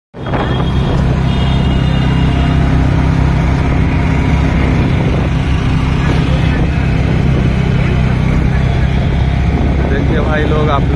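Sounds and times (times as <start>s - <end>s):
road noise: 0.1s - 10.9s
vehicle engine drone: 0.2s - 10.9s.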